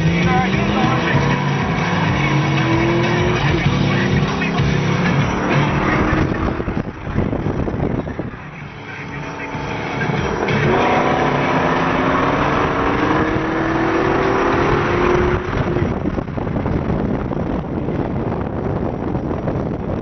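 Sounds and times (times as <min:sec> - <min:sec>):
car engine accelerating: 0:00.0 - 0:20.0
road noise: 0:00.0 - 0:20.0.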